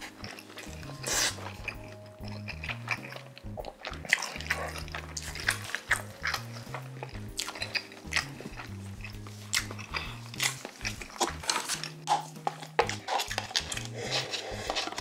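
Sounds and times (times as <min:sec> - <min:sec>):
background music with bass line: 0:00.0 - 0:15.0
sipping noodle soup: 0:00.0 - 0:15.0
wet chewing and lip smacks: 0:00.0 - 0:15.0.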